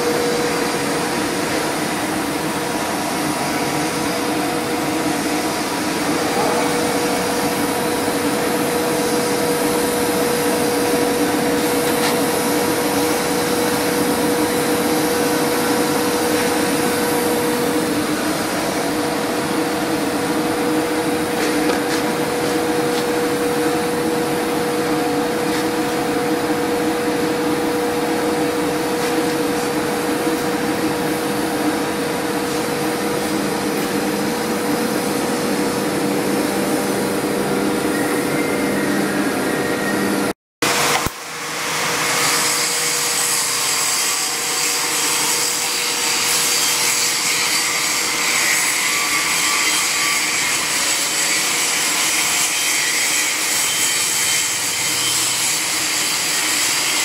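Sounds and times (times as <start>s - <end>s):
machine whirring hum: 0.0s - 57.0s.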